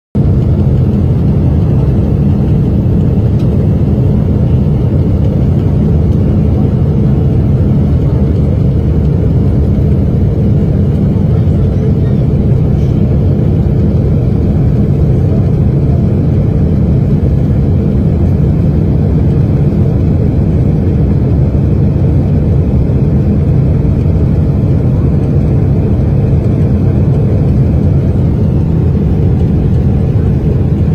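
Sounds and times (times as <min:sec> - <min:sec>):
loud low engine rumble: 0:00.2 - 0:30.9.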